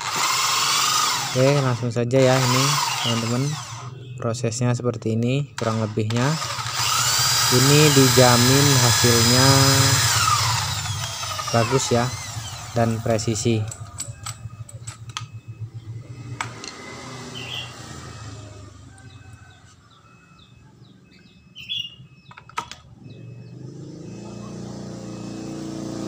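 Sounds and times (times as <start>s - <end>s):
motor vehicle engine: 0.0s - 4.2s, 5.4s - 26.0s
birds chirping: 1.4s - 7.0s, 7.6s - 26.0s.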